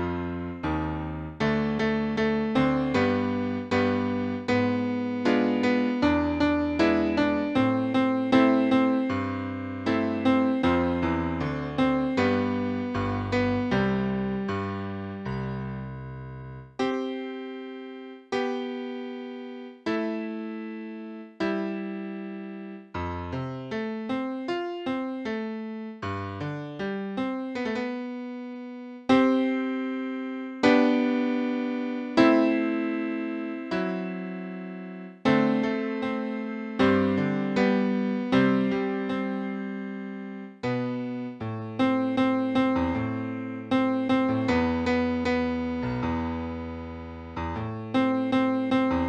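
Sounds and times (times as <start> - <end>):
solo piano music: 0.0 - 49.0.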